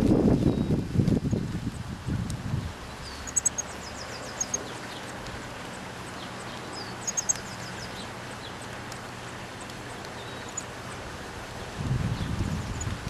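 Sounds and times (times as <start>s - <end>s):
steady background noise: 0.0s - 13.0s
small birds chirping: 0.3s - 13.0s.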